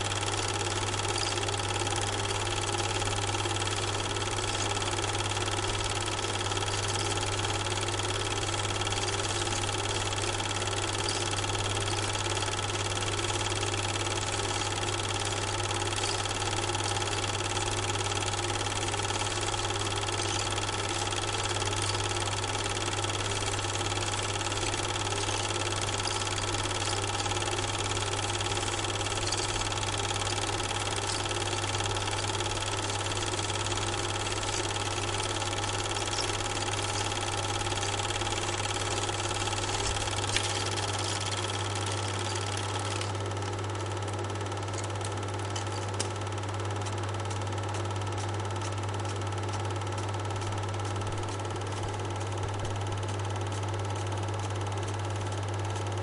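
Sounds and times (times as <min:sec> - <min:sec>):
motor humming with steady tones: 0:00.0 - 0:56.0.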